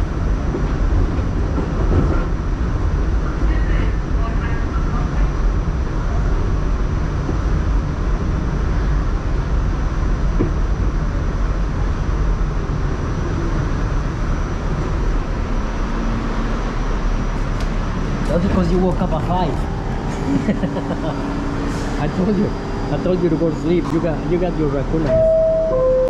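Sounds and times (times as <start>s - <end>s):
subway car rumbling: 0.0s - 26.0s.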